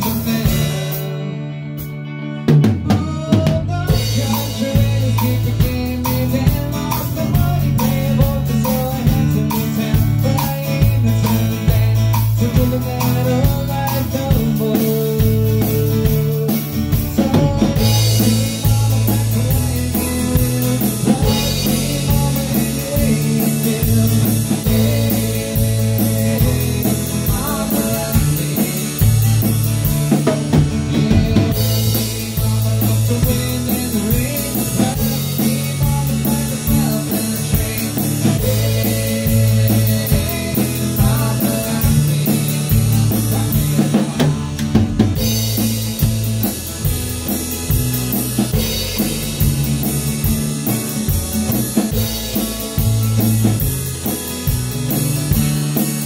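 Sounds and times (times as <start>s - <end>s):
drum kit: 0.0s - 56.0s
guitar: 0.0s - 56.0s
cymbals keeping a beat: 3.8s - 56.0s.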